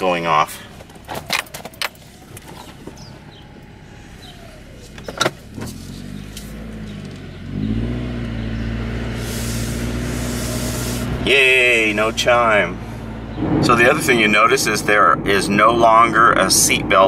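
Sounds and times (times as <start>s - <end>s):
car engine drone: 0.0s - 17.0s.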